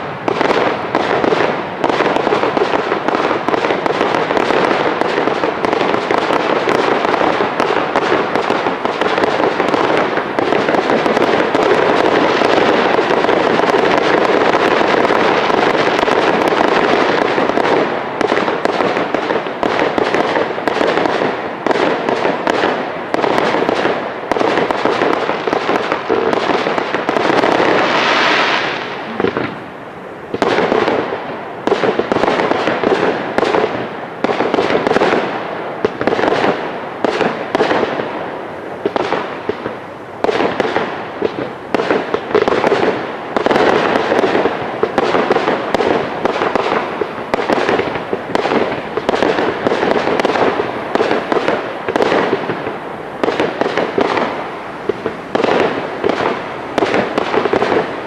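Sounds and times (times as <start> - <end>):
fireworks bursts and bangs: 0.0 - 58.0.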